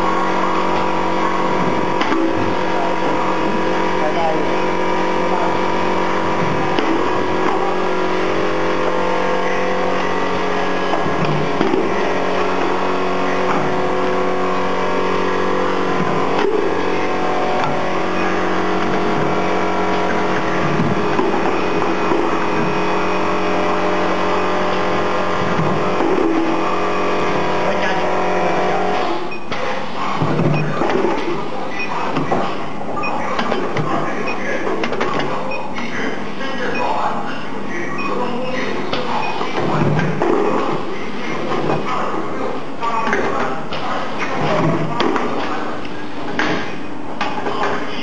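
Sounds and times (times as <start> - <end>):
forging machine electrical hum: 0.0 - 48.0.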